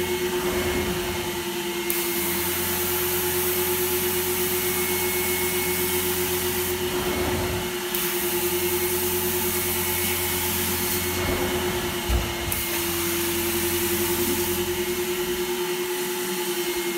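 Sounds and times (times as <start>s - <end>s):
carpet extraction machine vacuum hum: 0.0s - 16.9s.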